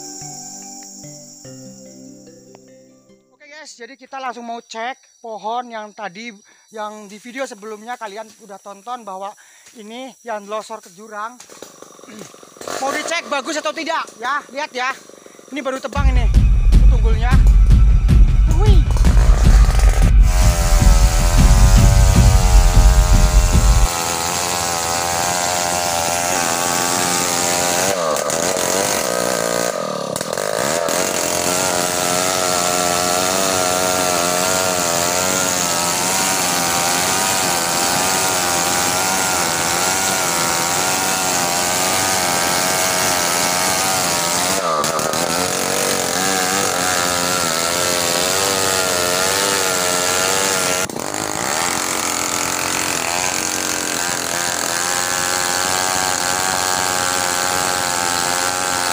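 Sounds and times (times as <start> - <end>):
chainsaw running at high revs: 11.2 - 58.9.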